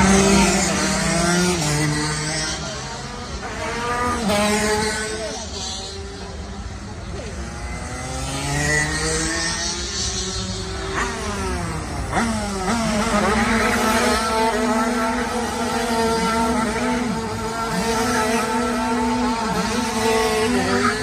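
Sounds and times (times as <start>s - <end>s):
go-kart engines revving: 0.0s - 21.0s.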